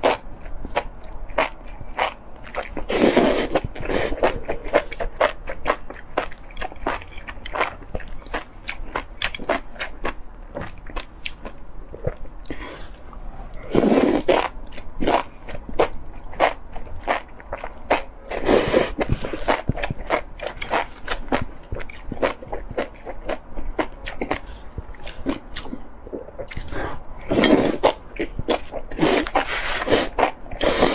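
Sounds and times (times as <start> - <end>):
wet chewing and biting: 0.0 - 13.3, 14.2 - 30.9.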